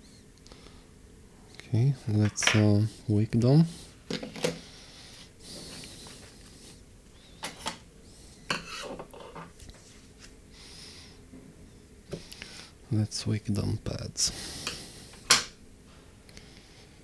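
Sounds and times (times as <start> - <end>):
faint scraping and hiss: 0.0 - 17.0.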